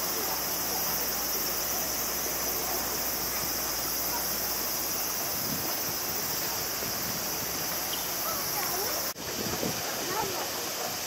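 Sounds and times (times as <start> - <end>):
high-pitched insect drone: 0.0 - 9.2
faint outdoor background noise: 0.0 - 11.0.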